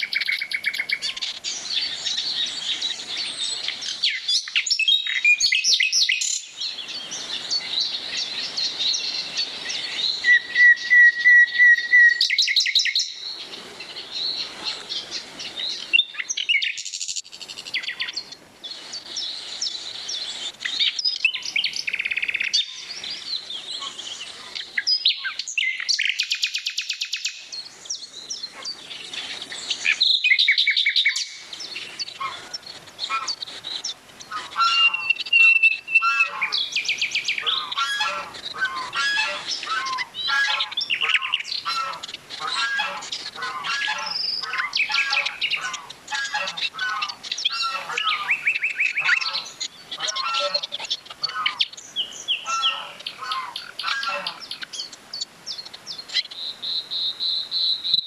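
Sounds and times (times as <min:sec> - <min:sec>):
songbirds singing and calling: 0:00.0 - 0:58.0.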